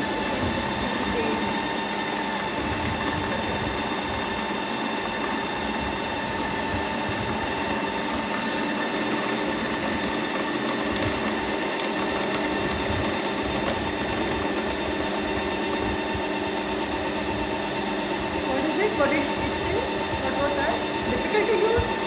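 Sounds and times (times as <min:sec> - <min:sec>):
ice cream maker motor whirring: 0:00.0 - 0:22.0.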